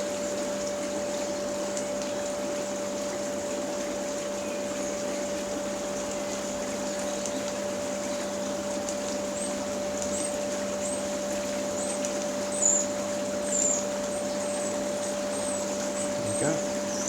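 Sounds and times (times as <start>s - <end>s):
muffled pump humming: 0.0s - 17.0s.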